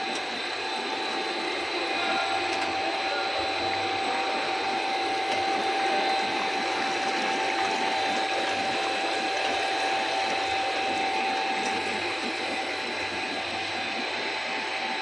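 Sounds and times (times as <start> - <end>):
high machine whine: 0.0 - 15.0
machinery and water rushing hiss: 0.0 - 15.0.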